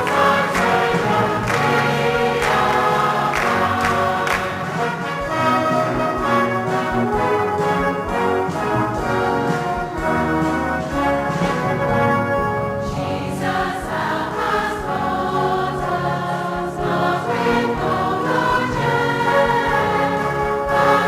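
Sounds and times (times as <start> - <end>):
brass band playing: 0.0 - 21.0
choir singing a hymn: 0.0 - 21.0.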